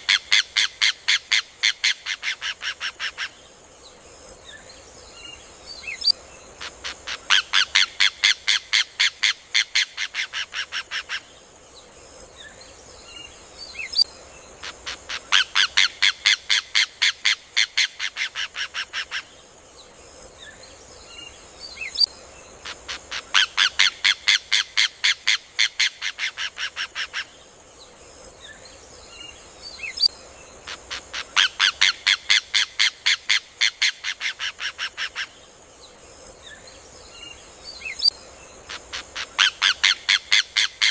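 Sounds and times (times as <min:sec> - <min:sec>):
steady high hiss: 0:00.0 - 0:40.9.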